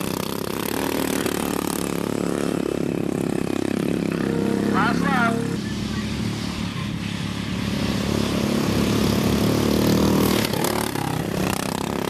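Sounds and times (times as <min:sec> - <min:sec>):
lawn mower engines racing: 0:00.0 - 0:12.0.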